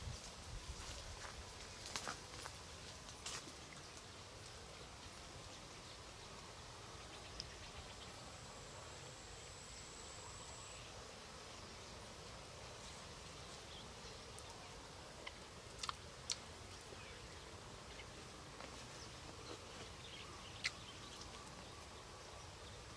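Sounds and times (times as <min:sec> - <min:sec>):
insect hum: 0:00.0 - 0:22.9.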